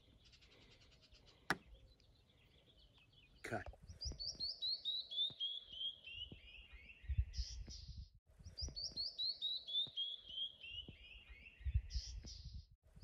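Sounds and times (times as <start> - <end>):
songbird whistled song: 1.5 - 12.7.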